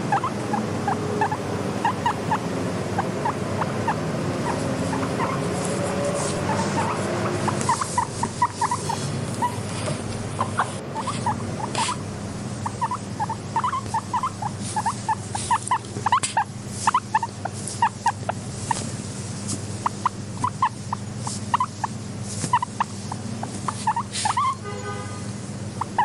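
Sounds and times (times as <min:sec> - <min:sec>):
guinea pig squeaking: 0:00.0 - 0:18.9, 0:19.5 - 0:24.7, 0:25.8 - 0:26.0.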